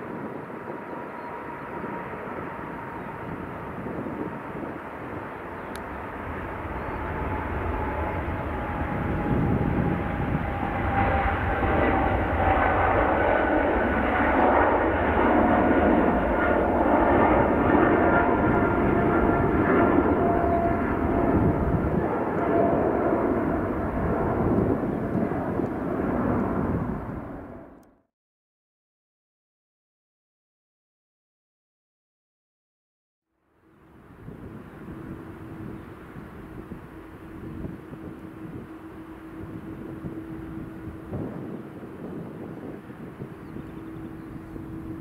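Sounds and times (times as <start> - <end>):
jet airliner taking off: 0.0 - 27.8, 33.5 - 45.0
jet engine whine: 0.0 - 28.1, 33.4 - 45.0.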